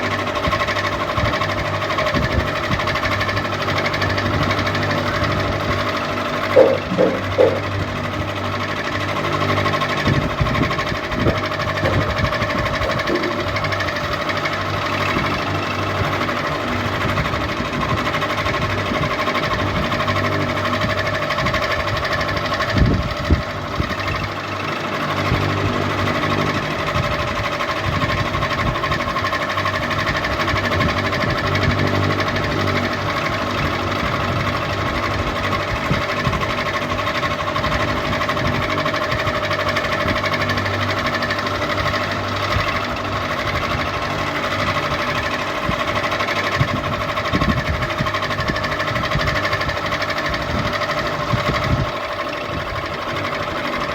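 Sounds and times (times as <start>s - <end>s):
ceiling fan whirring: 0.0s - 53.9s.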